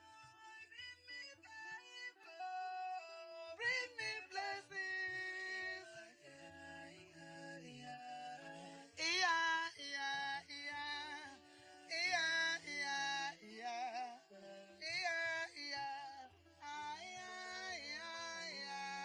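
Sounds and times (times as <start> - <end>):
gospel singing: 0.0 - 19.0.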